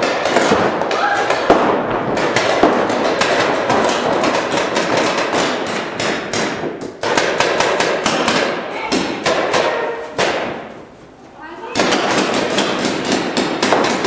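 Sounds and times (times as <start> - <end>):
paintball markers firing: 0.0 - 10.7, 11.8 - 14.0
balls hitting inflatable bunkers: 0.0 - 10.9, 11.7 - 14.0.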